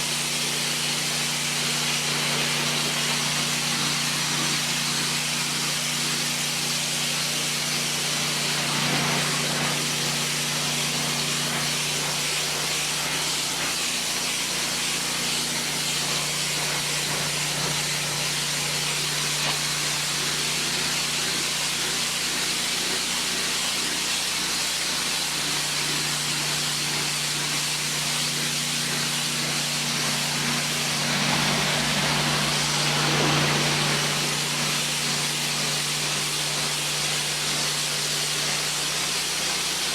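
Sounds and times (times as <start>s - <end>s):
high-pressure water spray hiss: 0.0s - 39.9s.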